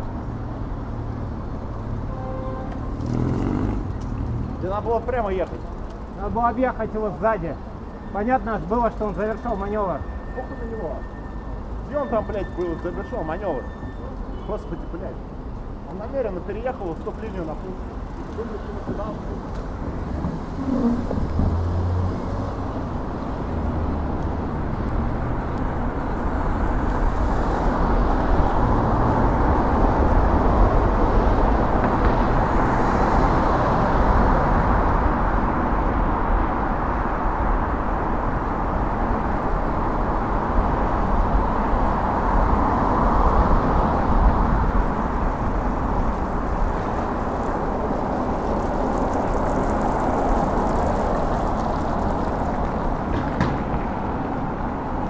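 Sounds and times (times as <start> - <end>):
city traffic: 0.0 - 55.0
road noise from bicycle: 0.0 - 55.0.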